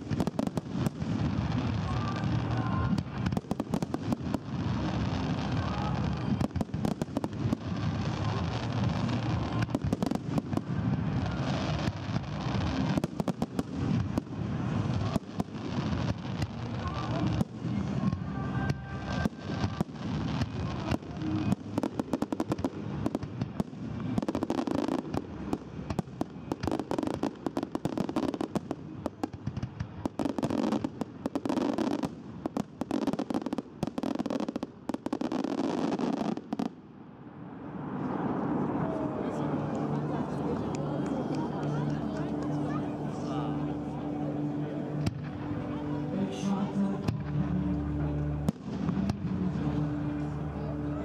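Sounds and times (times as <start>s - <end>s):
fireworks bangs: 0.0s - 36.8s, 37.8s - 50.7s.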